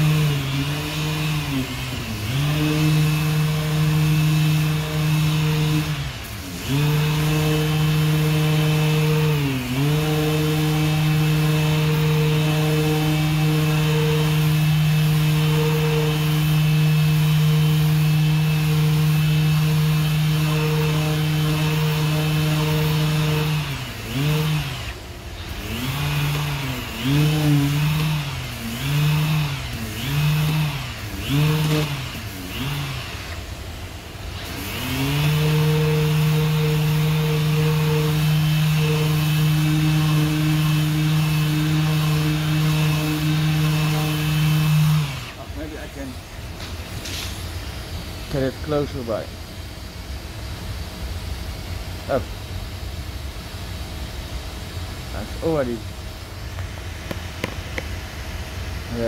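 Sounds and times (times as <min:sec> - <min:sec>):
orbital sander running: 0:00.0 - 0:52.4, 0:53.2 - 0:59.0.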